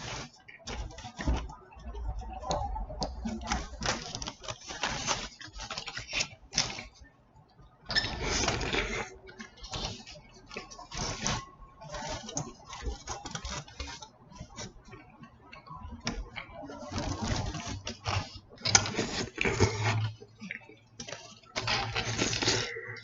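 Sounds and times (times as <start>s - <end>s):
wrapper rustling: 0.0s - 7.1s, 7.9s - 15.0s, 16.0s - 23.0s.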